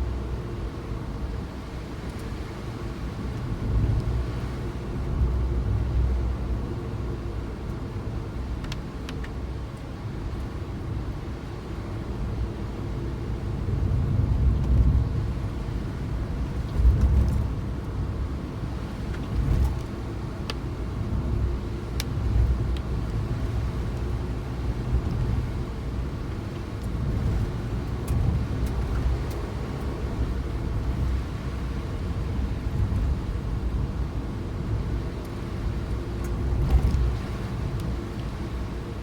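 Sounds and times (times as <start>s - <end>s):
car engine rumbling: 0.0s - 39.0s
road noise: 0.0s - 39.0s.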